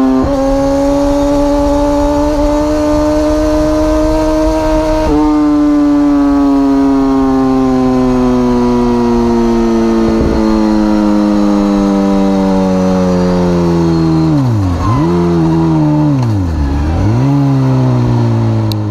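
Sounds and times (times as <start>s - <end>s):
motorcycle engine revving high: 0.0s - 18.9s.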